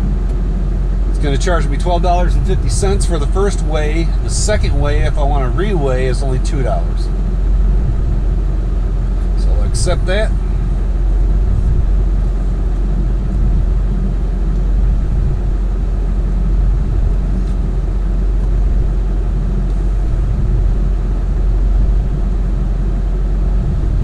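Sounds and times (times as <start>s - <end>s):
pickup engine idling: 0.0s - 24.0s.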